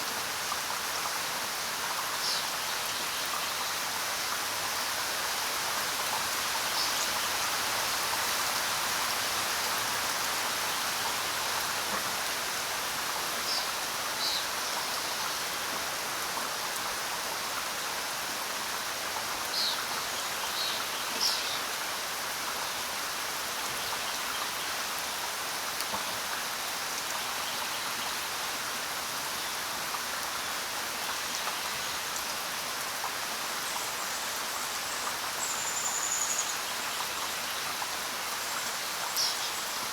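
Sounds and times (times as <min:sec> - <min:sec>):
rain pattering on ground: 0:00.0 - 0:39.9.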